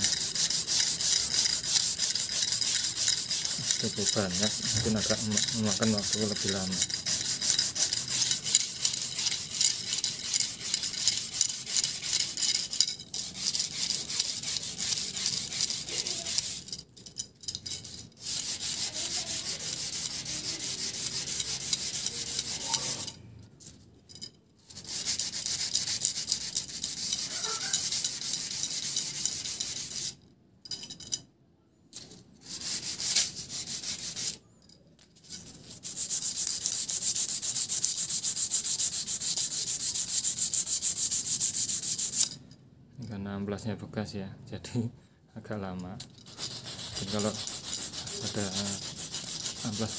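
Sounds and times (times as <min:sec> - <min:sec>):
sandpaper scratching steel rod: 0:00.0 - 0:16.8, 0:17.6 - 0:23.2, 0:24.7 - 0:30.2, 0:32.4 - 0:34.4, 0:35.2 - 0:42.4, 0:46.1 - 0:49.9.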